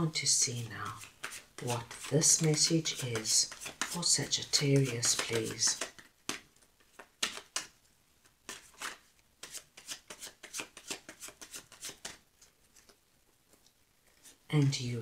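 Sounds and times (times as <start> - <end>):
cards being shuffled: 0.8 - 13.0.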